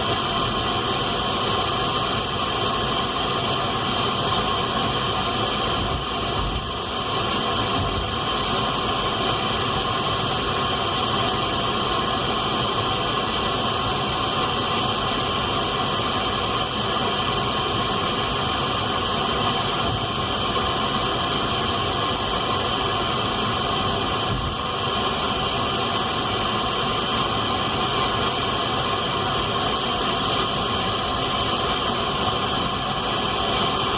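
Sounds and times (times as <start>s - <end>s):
radio static hiss: 0.0s - 33.9s.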